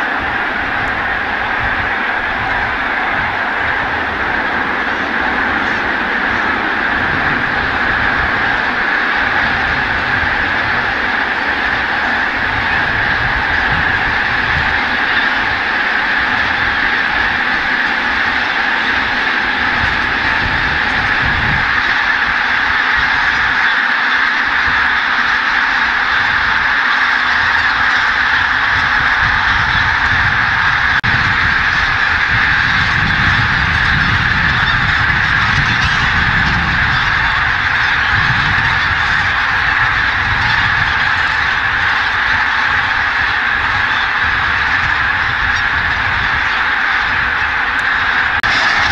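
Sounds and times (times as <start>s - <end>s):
flock of geese calling: 0.0s - 48.9s.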